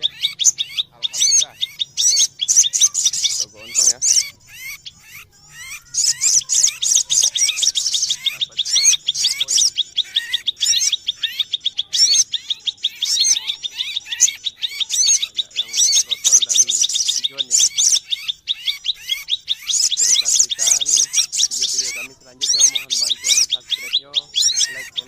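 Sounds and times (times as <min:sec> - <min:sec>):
fast repeated bird note: 0:00.0 - 0:25.0
songbirds chirping and trilling: 0:00.0 - 0:25.0.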